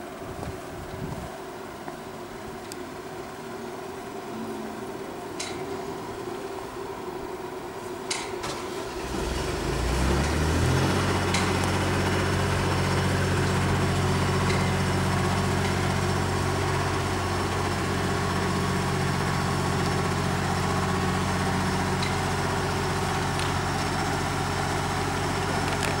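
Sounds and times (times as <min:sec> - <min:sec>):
fire engine diesel engine running: 0:00.0 - 0:26.0.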